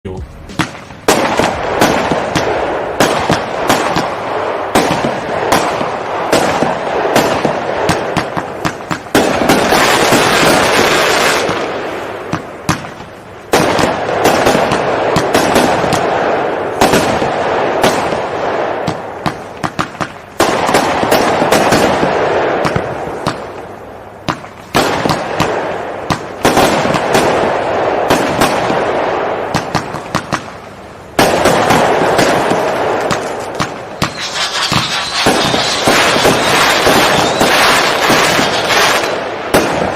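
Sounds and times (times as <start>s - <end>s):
dense fireworks hiss: 0.1s - 39.9s
fireworks bangs: 0.1s - 39.9s.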